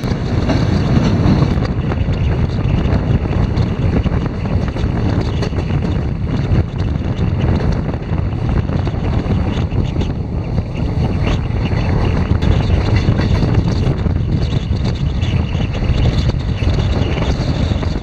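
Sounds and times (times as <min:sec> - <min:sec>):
train wheels rumbling on track: 0:00.0 - 0:18.0
wind buffeting the microphone: 0:00.0 - 0:18.0.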